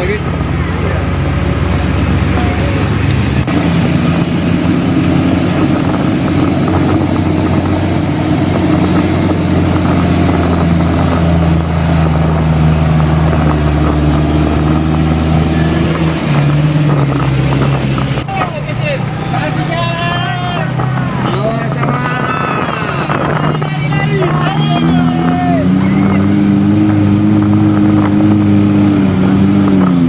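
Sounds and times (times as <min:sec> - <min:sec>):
heavy vehicle engine humming: 0:00.0 - 0:30.0.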